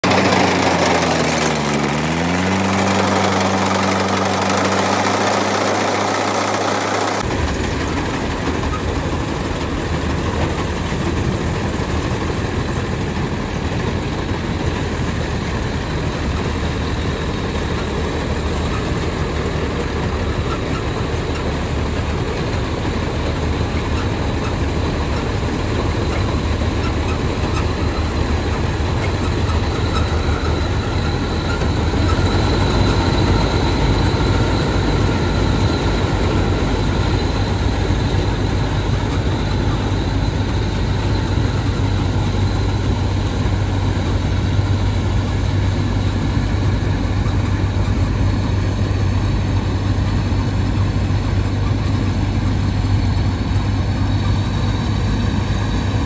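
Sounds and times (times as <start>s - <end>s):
steady machine rumble: 0.0s - 56.0s
tractor diesel engine under load: 0.0s - 56.0s.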